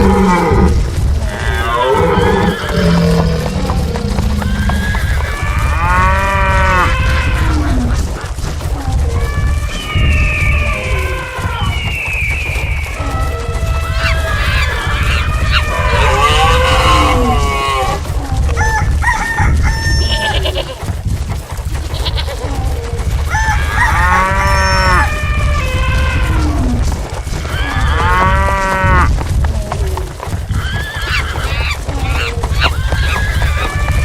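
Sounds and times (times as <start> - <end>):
farm animal calls: 0.0 - 21.0, 21.7 - 34.0
rumble of running hooves: 0.0 - 34.0.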